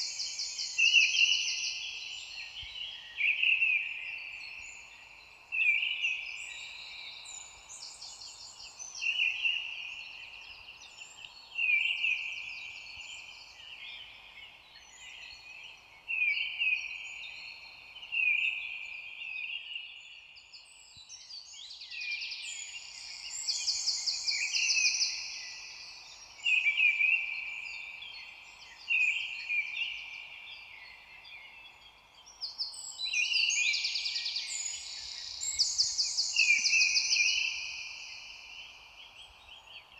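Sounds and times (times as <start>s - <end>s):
faint steady hiss: 0.0s - 39.9s
songbirds singing trills: 0.0s - 39.9s.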